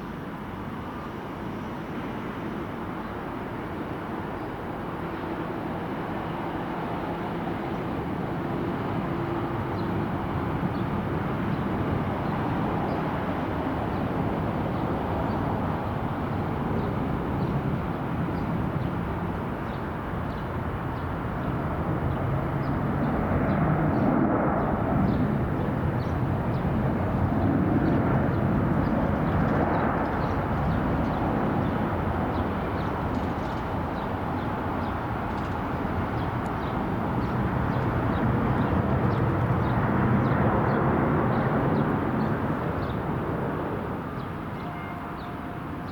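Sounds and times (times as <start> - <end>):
jet engine rumble and hiss: 0.0 - 44.6.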